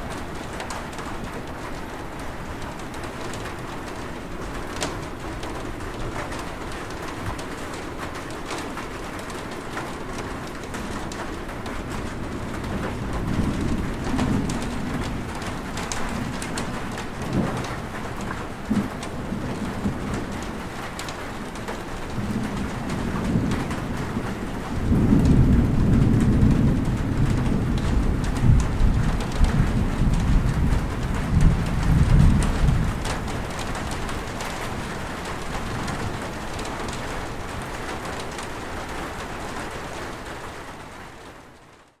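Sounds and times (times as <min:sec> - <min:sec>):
thunder rumbling: 0:00.0 - 0:40.6
steady rain: 0:00.0 - 0:42.0.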